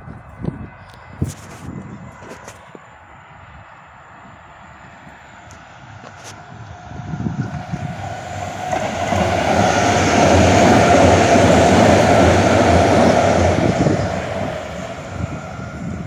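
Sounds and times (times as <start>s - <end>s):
light rail train passing: 0.0s - 16.0s.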